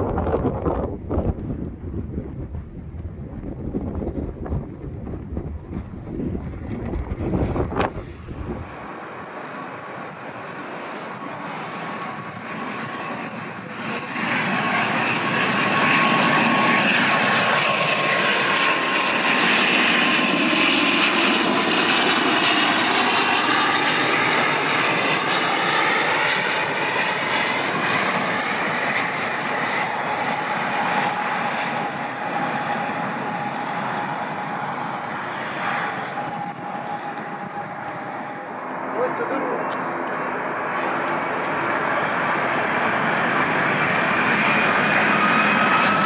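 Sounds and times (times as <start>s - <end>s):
propeller airliner flying past: 0.0s - 46.0s.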